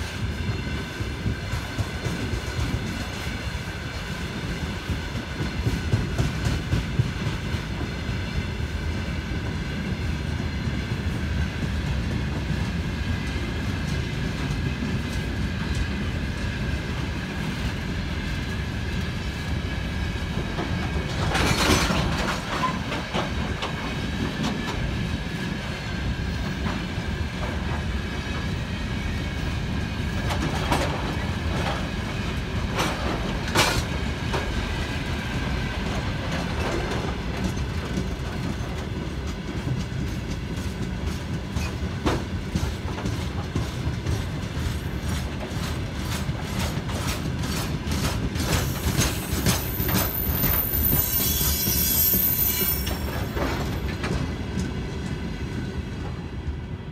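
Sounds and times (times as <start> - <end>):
freight train rolling past: 0.0 - 56.9.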